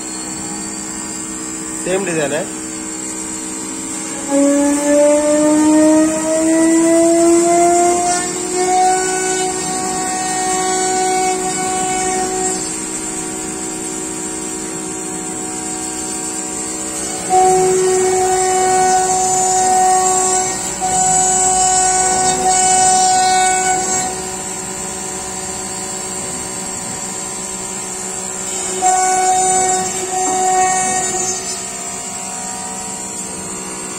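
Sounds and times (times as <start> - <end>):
router spindle whining cutting wood: 0.0 - 33.9.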